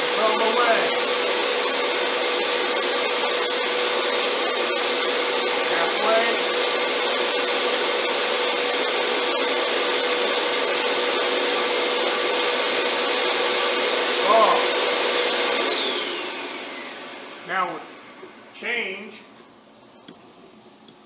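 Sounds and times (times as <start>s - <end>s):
blower rushing hiss: 0.0s - 19.4s.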